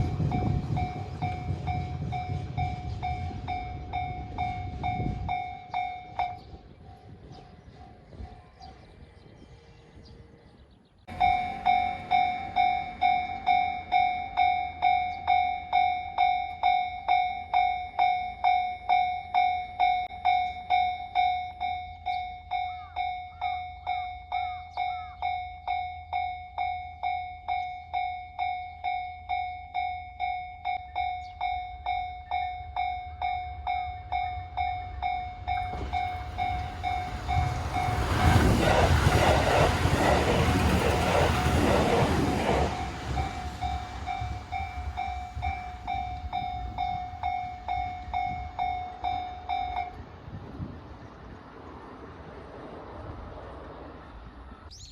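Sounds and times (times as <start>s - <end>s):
level-crossing warning bell: 0.0s - 8.8s, 11.1s - 50.4s
train passing: 0.0s - 54.9s.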